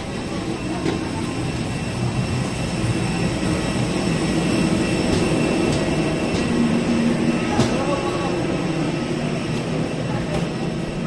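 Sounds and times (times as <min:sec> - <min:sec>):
airliner machinery drone: 0:00.0 - 0:11.0.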